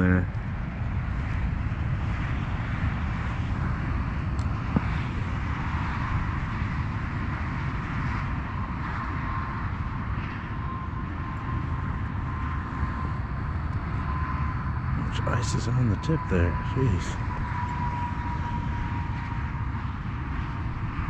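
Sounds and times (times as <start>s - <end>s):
faint thin whine: 0.0s - 21.0s
low rumble with hiss: 0.0s - 21.0s.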